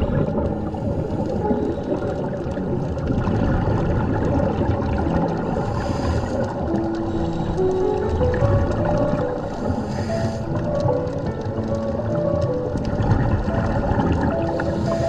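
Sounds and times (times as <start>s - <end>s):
muffled water rumble: 0.0s - 15.0s.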